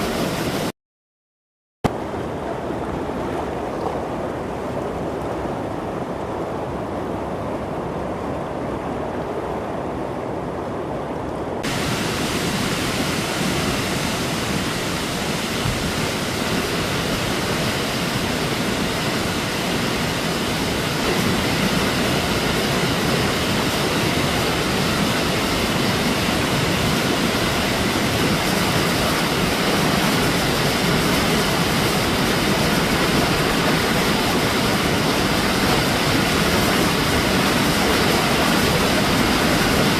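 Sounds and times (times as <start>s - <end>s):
floodwater rushing: 0.0s - 0.7s, 1.9s - 39.9s.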